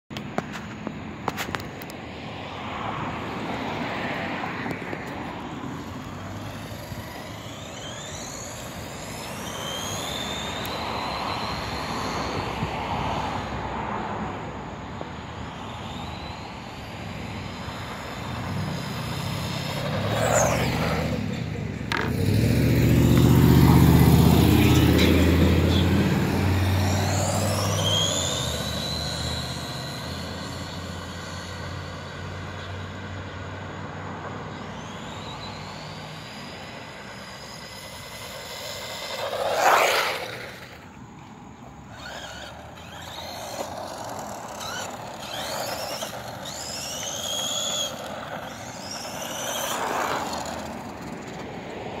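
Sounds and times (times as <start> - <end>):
electric motor whining: 4.7 - 13.5, 15.0 - 41.0, 41.8 - 51.4.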